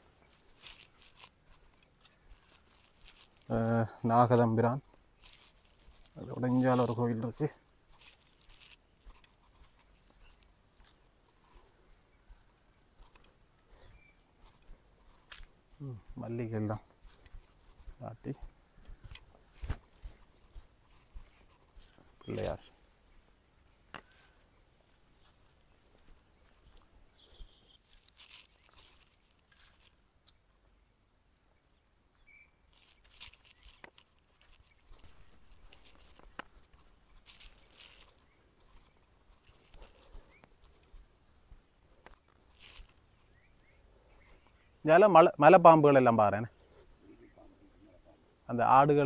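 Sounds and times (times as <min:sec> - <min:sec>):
footsteps crunching on dry grass: 0:00.0 - 0:30.8, 0:31.4 - 0:49.0
steady high hiss: 0:00.0 - 0:49.0.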